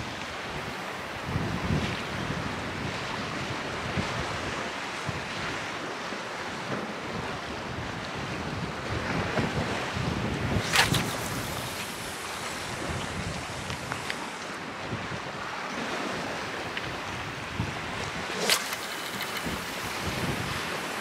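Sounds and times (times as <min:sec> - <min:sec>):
wind buffeting microphone: 0:00.0 - 0:05.6, 0:07.1 - 0:21.0
choppy sea against wall: 0:00.0 - 0:21.0.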